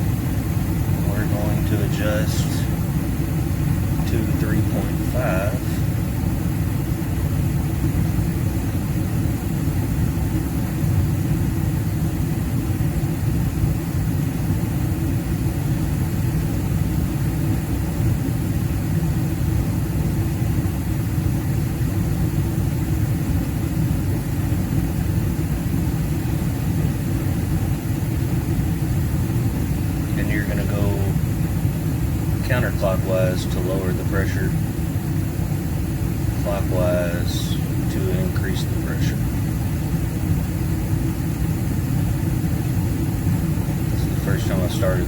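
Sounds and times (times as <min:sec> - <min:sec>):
gas furnace running: 0:00.0 - 0:45.0.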